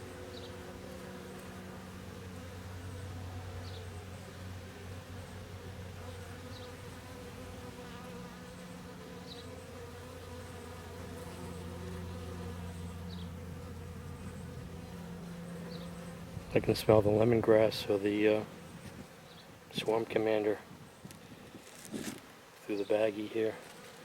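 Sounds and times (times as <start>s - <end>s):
bees buzzing: 0.0s - 19.8s.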